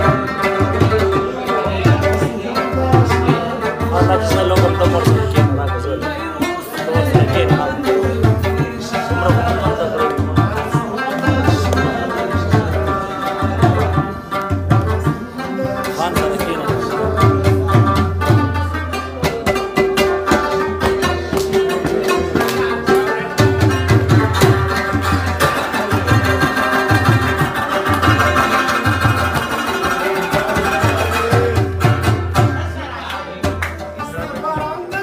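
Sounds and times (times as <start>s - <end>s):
plucked lute: 0.0s - 35.0s.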